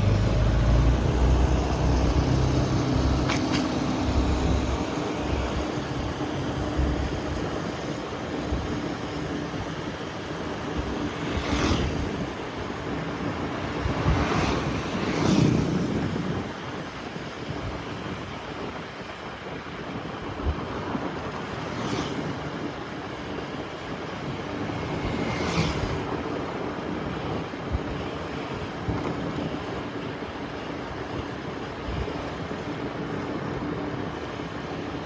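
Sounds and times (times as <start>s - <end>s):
vehicles passing by: 0.0s - 17.4s, 19.9s - 35.0s
wind rushing over microphone: 0.0s - 35.0s.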